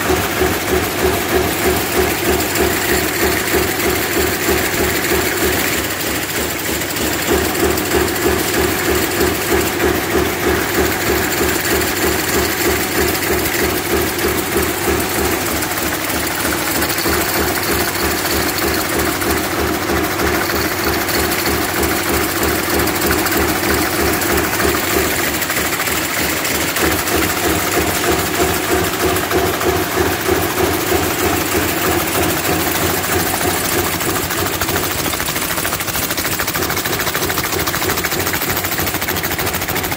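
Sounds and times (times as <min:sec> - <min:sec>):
production line mechanical hum: 0:00.0 - 0:35.2
fast beat of press and conveyors: 0:00.0 - 0:39.9.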